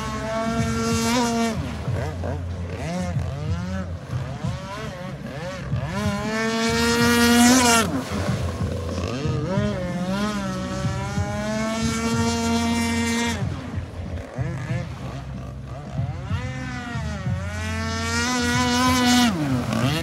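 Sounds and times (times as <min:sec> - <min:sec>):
rc boat engine revving: 0:00.0 - 0:20.0.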